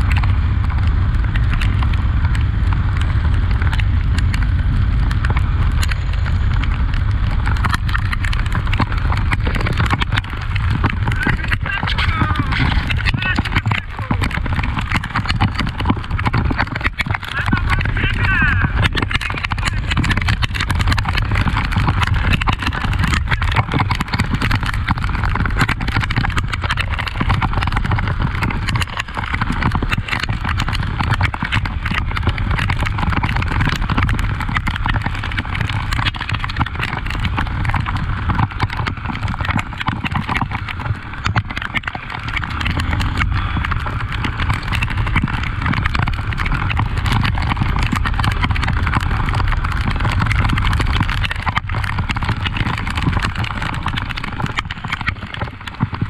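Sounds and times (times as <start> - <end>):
clatter of knocks and rattles: 0.0 - 56.0
motorcycle engine running: 0.0 - 56.0.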